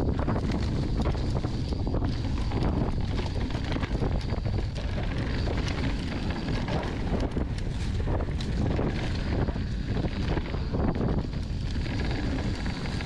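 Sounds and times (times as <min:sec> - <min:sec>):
bike clicks and rattles: 0:00.0 - 0:13.0
wind buffeting microphone: 0:00.0 - 0:13.0.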